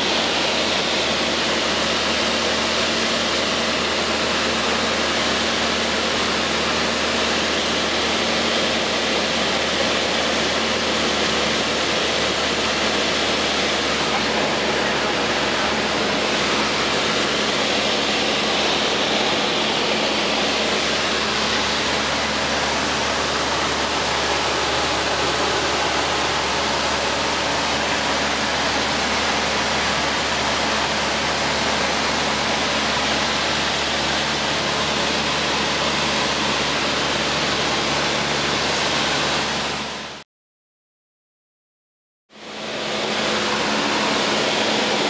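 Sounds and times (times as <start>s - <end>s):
light aircraft engine and propeller: 0.0s - 40.2s, 42.3s - 45.0s.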